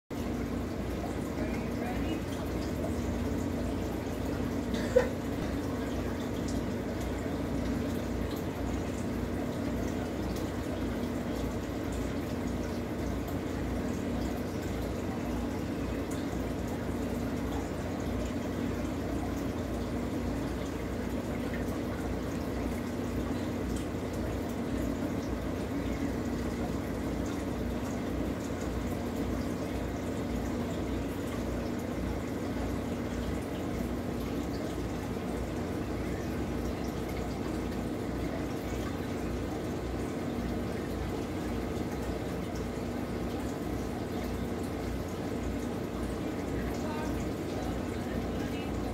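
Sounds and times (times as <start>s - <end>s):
filter hum: 0.1s - 48.9s
water trickling and bubbling: 0.1s - 48.9s.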